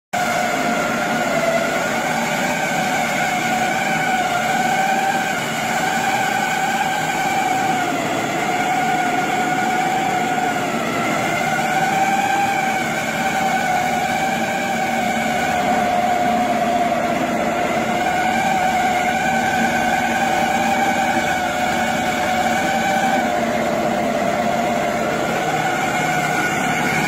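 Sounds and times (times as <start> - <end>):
machine whine: 0.1 - 27.0.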